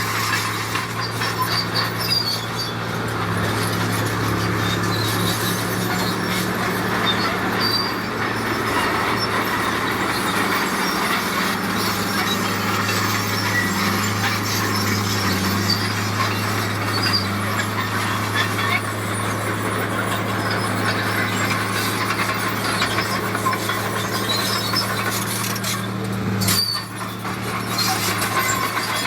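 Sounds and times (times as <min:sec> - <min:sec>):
diesel construction machine running: 0:00.0 - 0:29.0
high-pitched metallic squeaks: 0:00.0 - 0:29.0.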